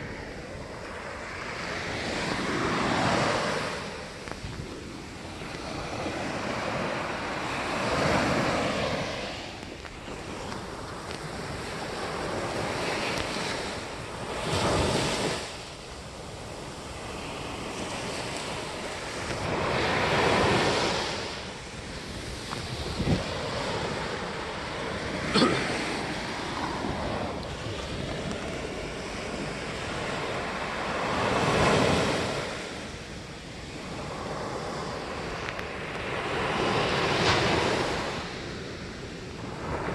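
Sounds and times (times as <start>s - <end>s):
sea waves breaking on shore: 0.0s - 39.9s
wind buffeting microphone: 0.0s - 39.9s.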